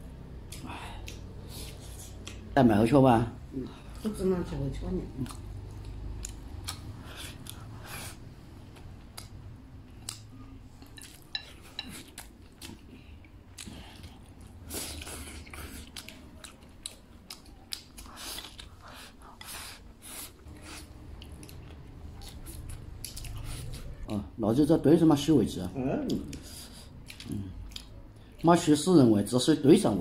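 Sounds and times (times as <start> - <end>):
person chewing food: 0.1 - 2.6, 5.1 - 24.1, 26.1 - 28.7.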